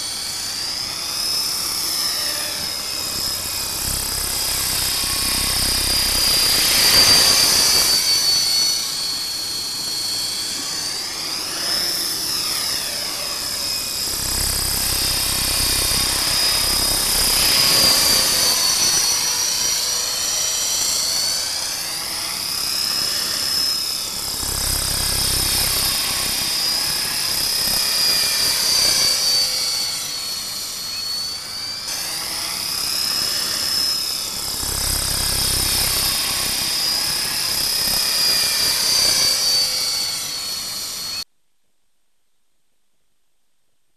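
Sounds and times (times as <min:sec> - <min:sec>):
model helicopter whine: 0:00.0 - 0:41.3.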